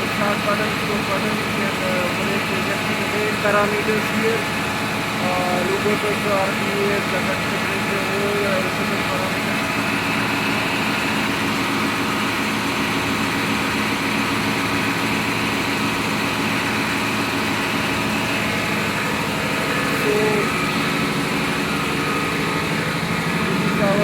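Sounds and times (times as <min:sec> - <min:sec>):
diesel generator droning: 0:00.0 - 0:24.0.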